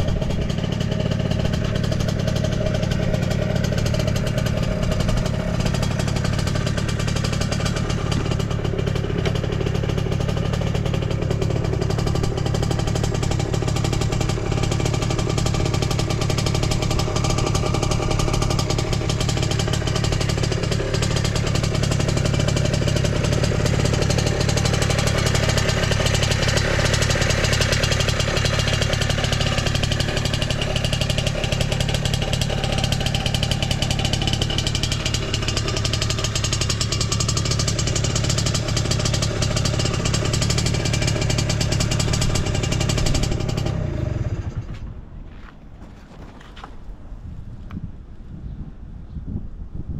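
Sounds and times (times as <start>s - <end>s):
two-stroke motorcycle engine idling: 0.0s - 47.3s.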